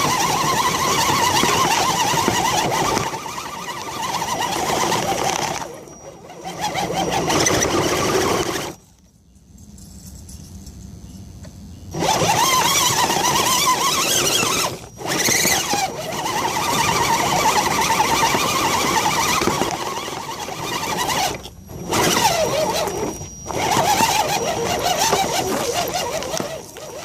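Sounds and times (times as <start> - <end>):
rattling hissing drivetrain: 0.0 - 8.8, 11.9 - 27.0
electric motor whining: 0.0 - 8.9, 11.7 - 27.0.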